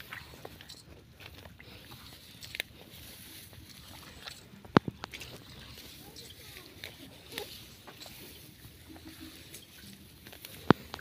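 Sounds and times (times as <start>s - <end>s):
footsteps through flooded field: 0.0s - 11.0s
small clicks and crunches: 0.0s - 11.0s
wet stalks brushing: 0.0s - 11.0s.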